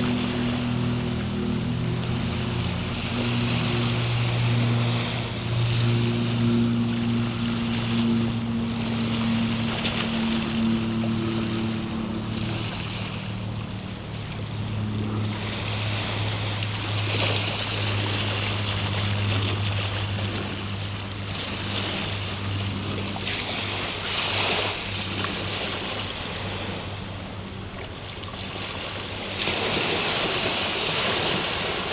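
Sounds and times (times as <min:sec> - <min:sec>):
ocean waves breaking: 0:00.0 - 0:31.9
steady low hum: 0:00.0 - 0:31.9.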